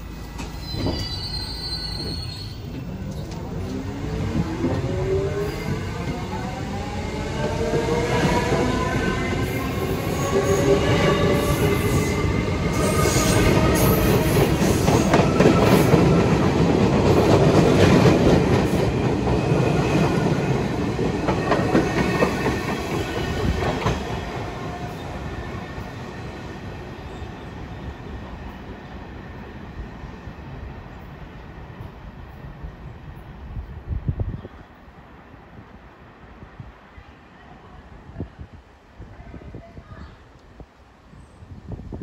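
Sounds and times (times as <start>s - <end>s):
subway train wheels clicking: 0.0s - 36.0s
train whine: 0.0s - 36.4s.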